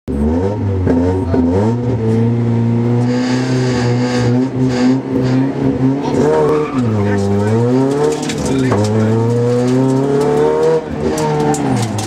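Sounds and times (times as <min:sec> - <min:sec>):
rally car engine revving: 0:00.1 - 0:12.0.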